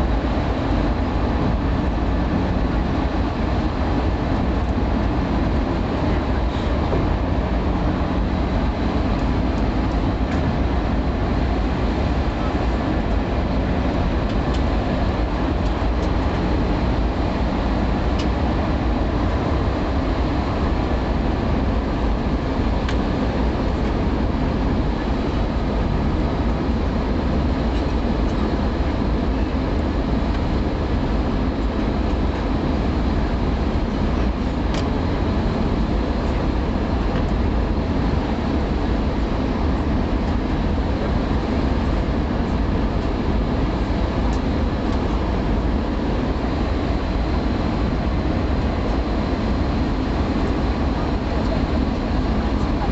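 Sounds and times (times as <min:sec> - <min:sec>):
jet cabin engine and airflow noise: 0:00.0 - 0:52.9.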